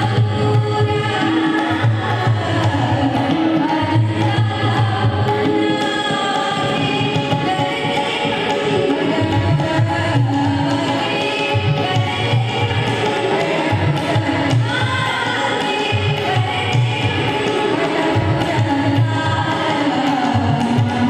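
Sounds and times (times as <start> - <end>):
percussion and instrumental accompaniment: 0.0 - 21.0
woman singing: 0.0 - 21.0.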